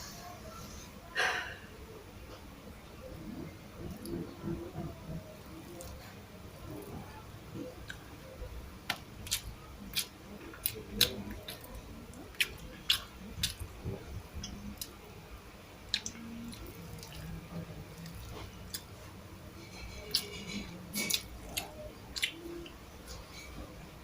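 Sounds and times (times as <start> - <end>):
quiet chewing: 3.1 - 15.1, 15.8 - 23.9.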